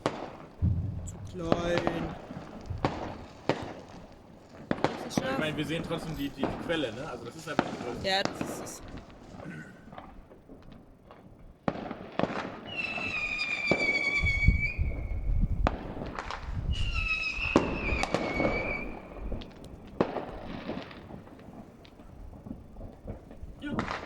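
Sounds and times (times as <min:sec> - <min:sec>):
distant fireworks bangs and crackles: 0:00.0 - 0:24.0
low rumble of heavy fireworks: 0:00.0 - 0:24.0
whistling fireworks shrieking: 0:00.0 - 0:24.0.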